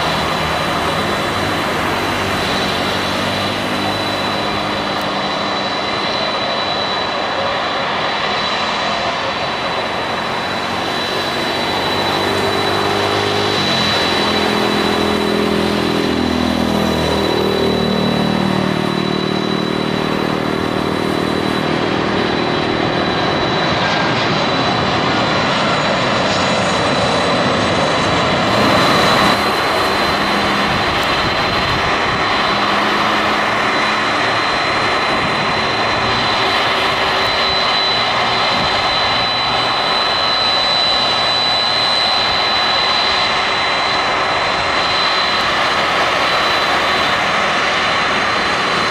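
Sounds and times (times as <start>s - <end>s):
jet engines roaring with whine: 0.0s - 48.9s.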